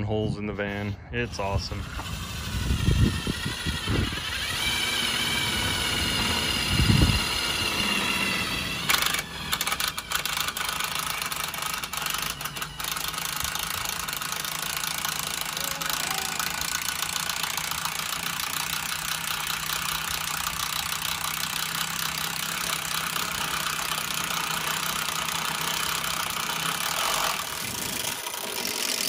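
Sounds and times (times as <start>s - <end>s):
cordless drill boring into steel: 1.5s - 29.0s.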